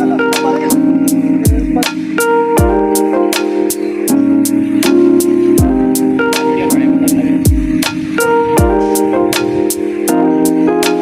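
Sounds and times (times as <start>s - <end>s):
sharp percussive beat: 0.0s - 11.0s
sustained chords: 0.0s - 11.0s.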